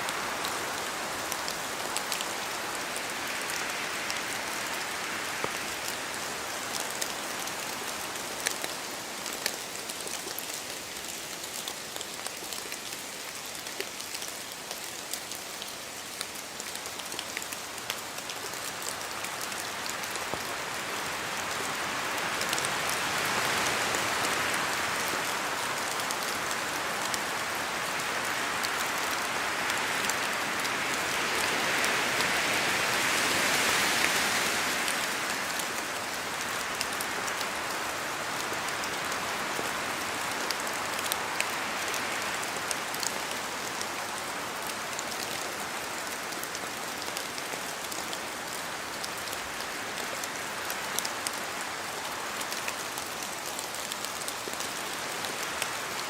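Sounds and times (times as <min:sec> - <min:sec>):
steady rain: 0:00.0 - 0:56.0
wind rushing through trees: 0:00.0 - 0:56.0.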